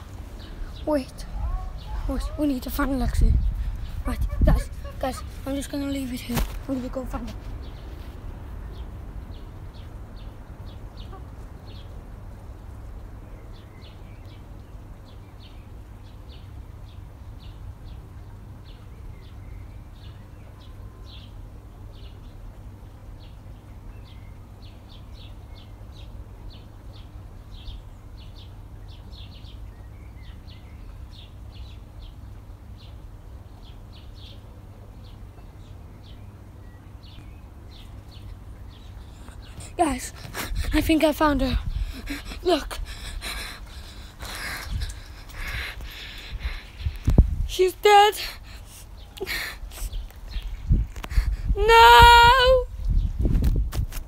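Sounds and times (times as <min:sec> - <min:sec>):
small birds chirping: 0:00.0 - 0:53.7.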